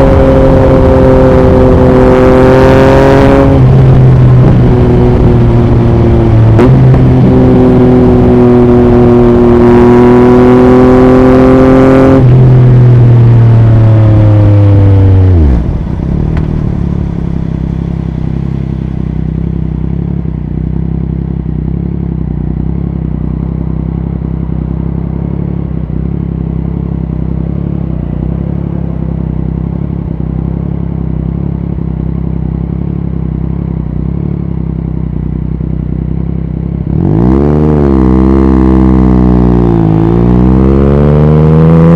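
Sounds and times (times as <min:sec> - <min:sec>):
motorcycle engine revving and idling: 0:00.0 - 0:41.9.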